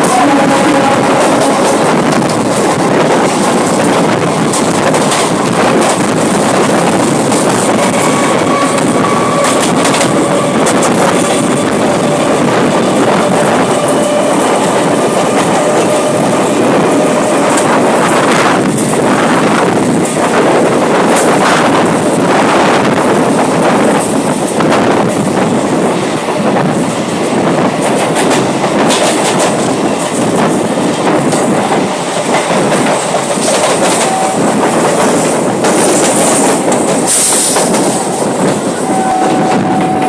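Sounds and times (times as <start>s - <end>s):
high squeal of train: 0.0s - 40.0s
train wheels clattering over rails: 0.0s - 40.0s.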